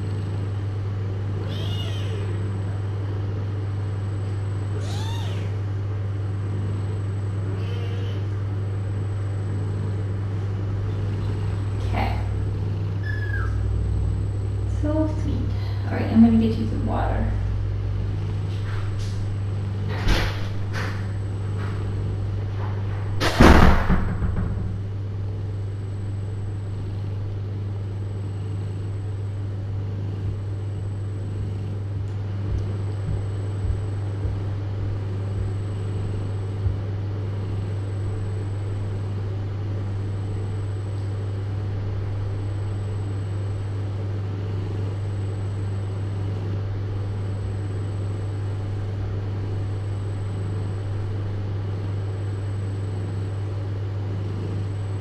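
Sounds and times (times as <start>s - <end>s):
faint high whine: 0.0s - 55.0s
low hum: 0.0s - 55.0s.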